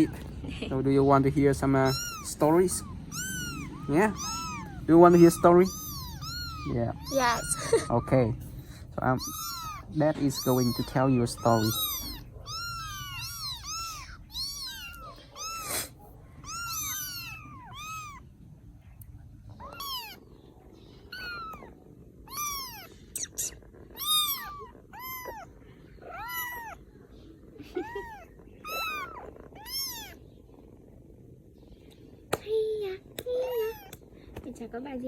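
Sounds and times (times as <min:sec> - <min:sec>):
kittens mewing: 0:00.0 - 0:34.4.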